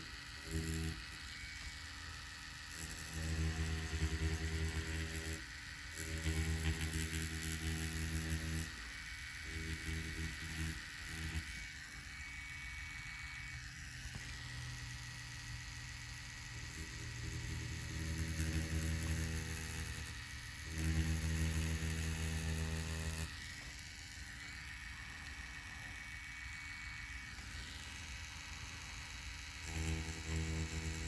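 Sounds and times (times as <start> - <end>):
tattoo machine motor hum: 0.0 - 31.0.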